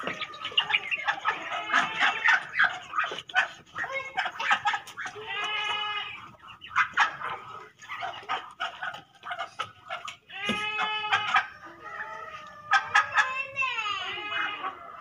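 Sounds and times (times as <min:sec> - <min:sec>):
farmyard animals calling: 0:00.0 - 0:15.0.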